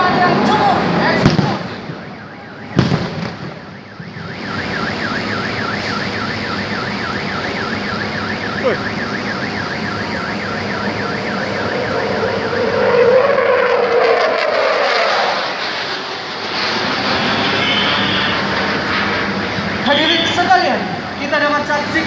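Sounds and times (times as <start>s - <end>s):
emergency siren warbling: 0.0s - 22.0s
low-flying jet engine: 0.0s - 22.0s.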